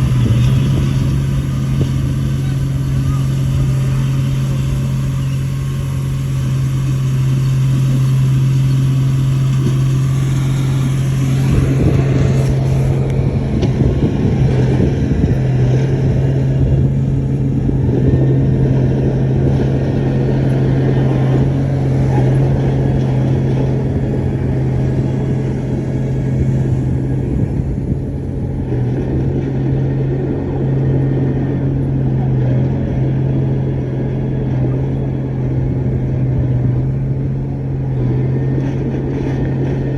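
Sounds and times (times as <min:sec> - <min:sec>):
heavy machine diesel engine drone: 0:00.0 - 0:39.9.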